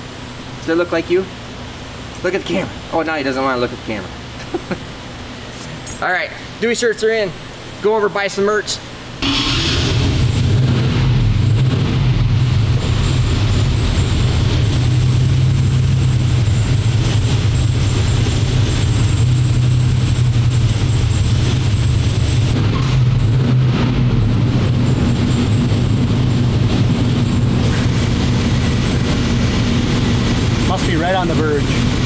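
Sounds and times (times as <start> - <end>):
engine droning steadily: 0.0 - 32.0.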